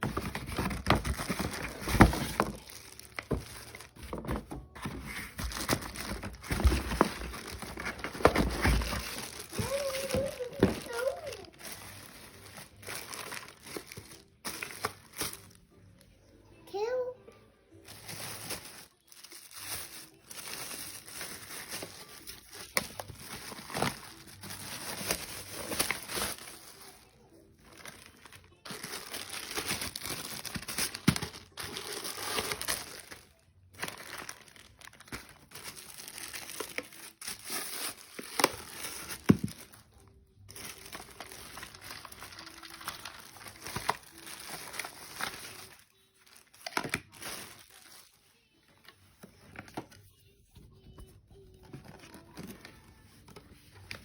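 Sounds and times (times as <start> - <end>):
crinkling and rustling handling: 0.0 - 16.2, 17.7 - 54.0.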